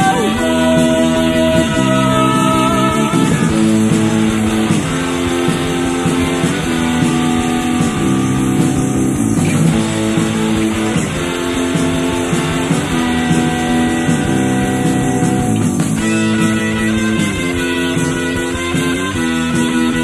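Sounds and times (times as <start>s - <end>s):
post-punk guitar chords: 0.0s - 20.0s.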